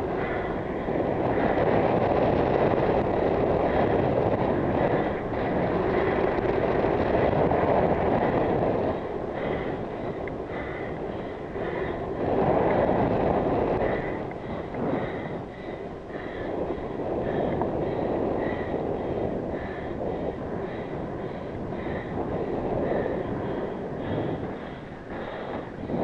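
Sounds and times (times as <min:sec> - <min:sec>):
bicycle tyre noise on tarmac: 0:00.0 - 0:26.0
wind on microphone: 0:00.0 - 0:26.0.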